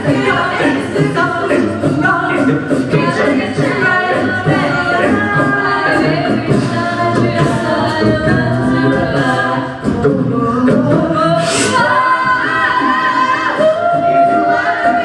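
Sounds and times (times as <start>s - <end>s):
a cappella group singing harmony: 0.0s - 15.0s
female lead voice singing: 0.0s - 15.0s
sung bass line: 0.0s - 15.0s.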